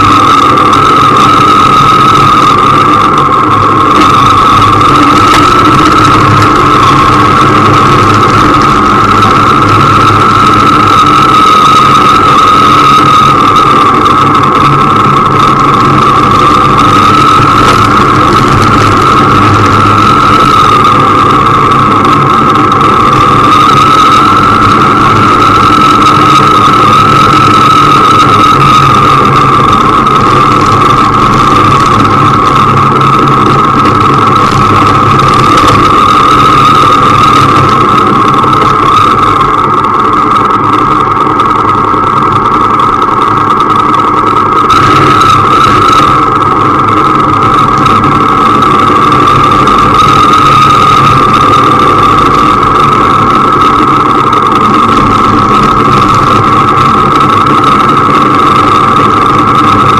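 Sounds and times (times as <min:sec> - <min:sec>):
high-pitched whine: 0:00.0 - 0:59.9
motorcycle engine running: 0:00.0 - 0:59.9
rushing noise: 0:00.0 - 0:59.9.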